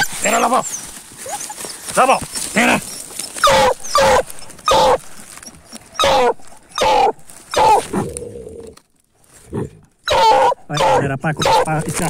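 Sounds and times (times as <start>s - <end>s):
dog baying: 0.0s - 8.5s, 10.1s - 11.8s.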